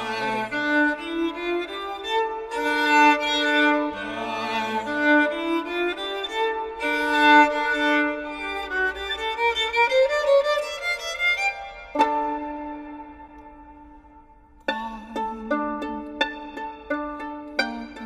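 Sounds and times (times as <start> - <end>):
violin slow melody: 0.0 - 18.0.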